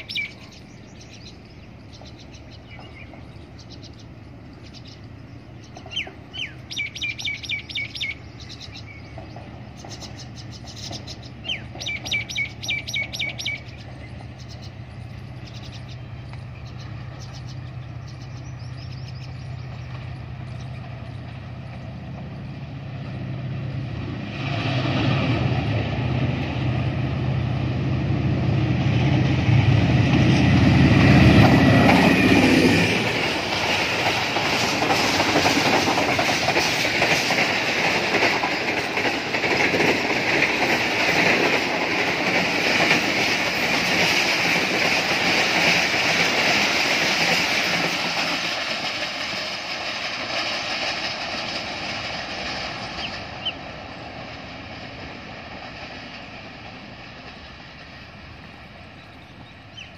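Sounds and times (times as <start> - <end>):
locomotive engine drone: 0.0 - 59.9
train coaches clickety-clack: 0.0 - 59.9.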